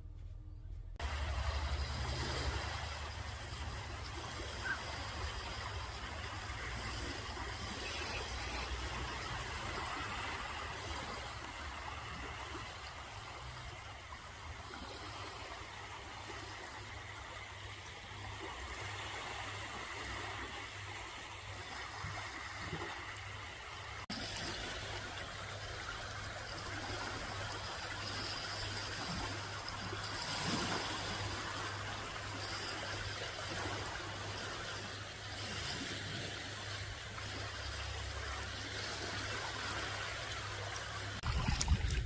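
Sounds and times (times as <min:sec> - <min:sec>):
water rushing: 0:01.0 - 0:42.0.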